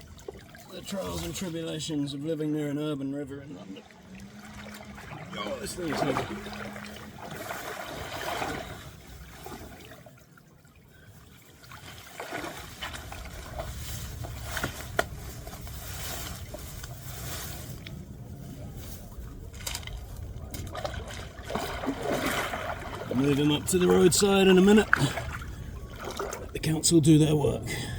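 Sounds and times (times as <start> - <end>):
river water sloshing: 0.0 - 27.7.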